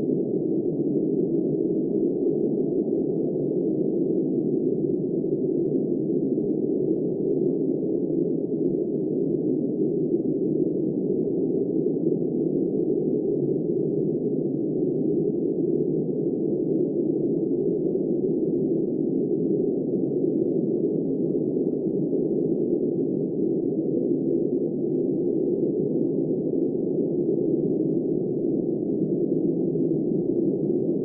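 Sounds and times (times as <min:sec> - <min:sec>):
muffled wind: 0:00.0 - 0:31.0.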